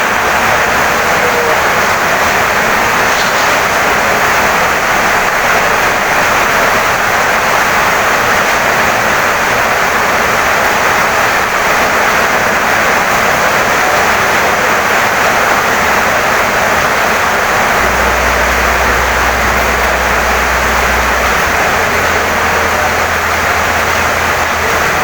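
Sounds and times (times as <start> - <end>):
heavy rain on wooden house: 0.0 - 25.0.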